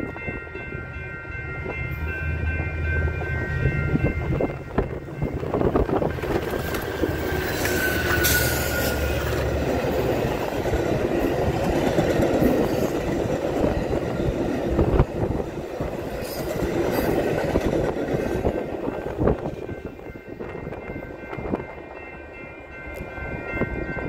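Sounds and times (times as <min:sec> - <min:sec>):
diesel locomotive engine humming: 0:00.0 - 0:24.0
train wheels clattering on rails: 0:01.6 - 0:22.2.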